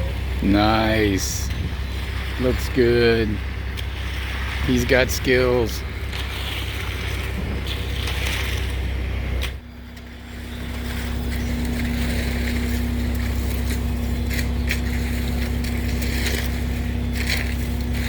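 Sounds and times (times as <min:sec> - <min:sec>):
low engine drone: 0:00.0 - 0:18.0
steady humming tone: 0:00.0 - 0:18.0.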